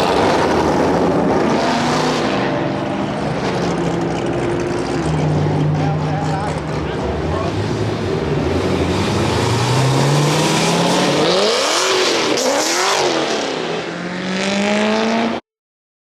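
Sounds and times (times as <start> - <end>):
car engine revving: 0.0 - 15.4.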